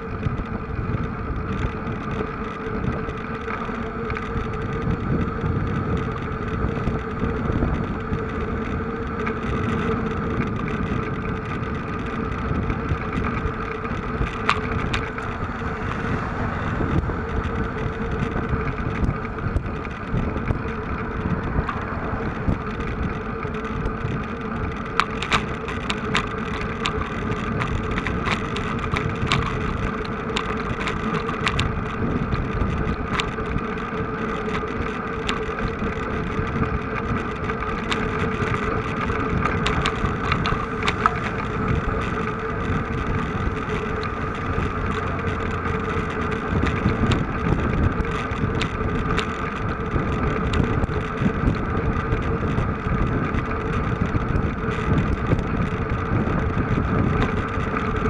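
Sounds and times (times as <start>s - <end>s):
small engine humming: 0.0s - 58.0s
wind rumbling on microphone: 0.0s - 58.0s
sharp ticks: 0.2s - 58.0s.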